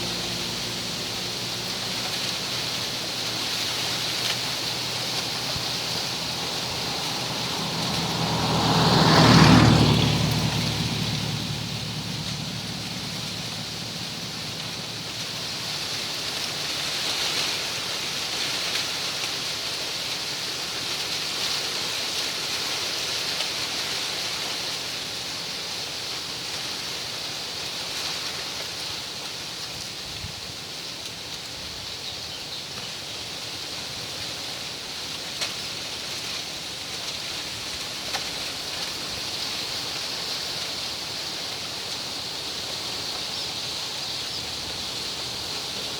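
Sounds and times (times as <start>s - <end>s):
wind rustling palm fronds: 0.0s - 45.9s.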